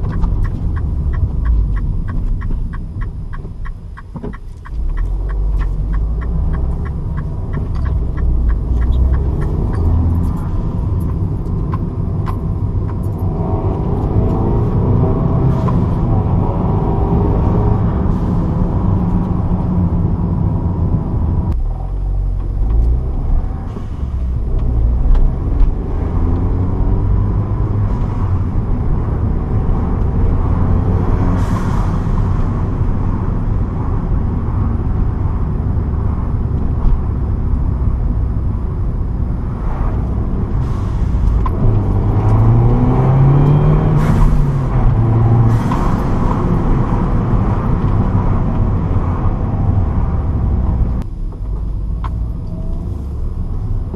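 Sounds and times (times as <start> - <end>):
car engine from inside cabin: 0.0 - 53.9.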